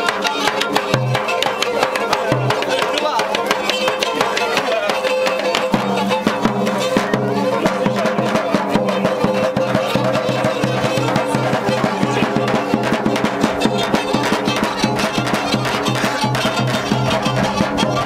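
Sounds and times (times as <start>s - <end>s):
bowed fiddle melody: 0.0s - 18.0s
bass drum fast rhythm: 1.8s - 18.0s.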